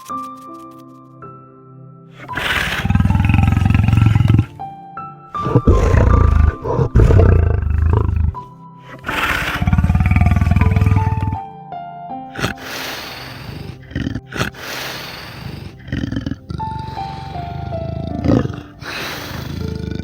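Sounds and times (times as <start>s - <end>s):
large animal roaring: 2.2s - 4.5s, 5.4s - 11.4s, 12.4s - 20.0s.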